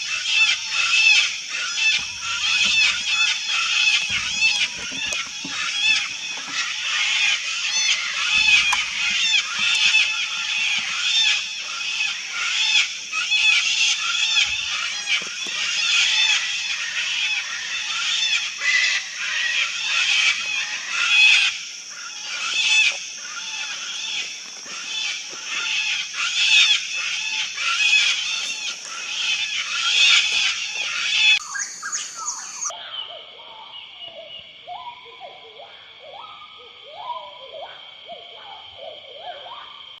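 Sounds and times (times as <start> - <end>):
cockatoos shrieking: 0.0 - 33.3.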